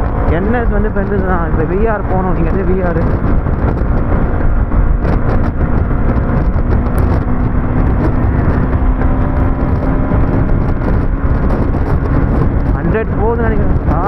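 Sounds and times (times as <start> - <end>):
motorcycle engine: 0.0 - 14.0
wind rush on microphone: 0.0 - 14.0.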